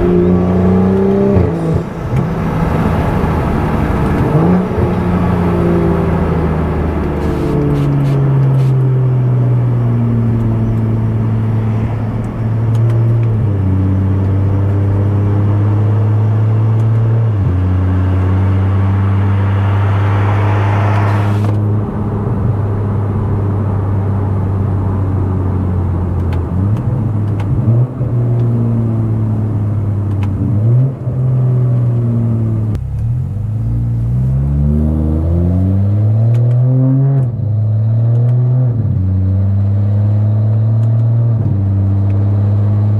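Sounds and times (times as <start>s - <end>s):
car engine with loud exhaust: 0.0s - 42.9s.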